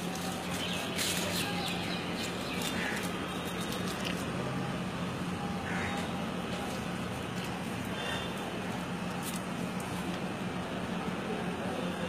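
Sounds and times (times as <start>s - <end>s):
street background hum: 0.0s - 12.0s.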